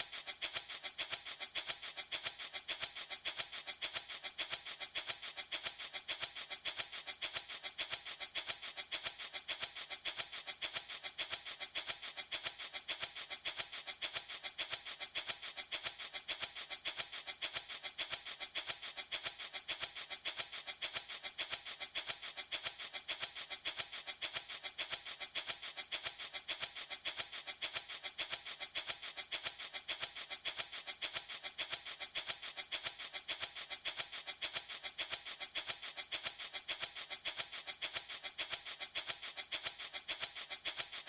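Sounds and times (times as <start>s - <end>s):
baby rattle shaken: 0.0s - 41.0s.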